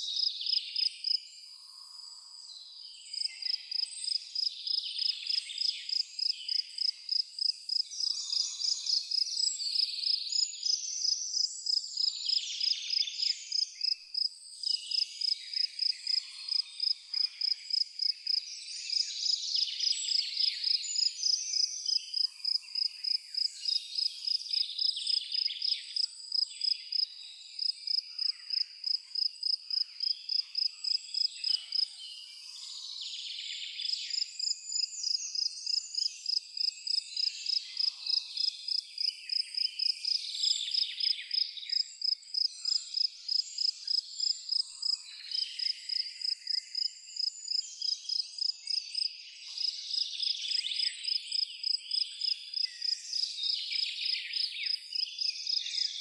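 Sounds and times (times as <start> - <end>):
cricket chirping: 3.1 - 55.9.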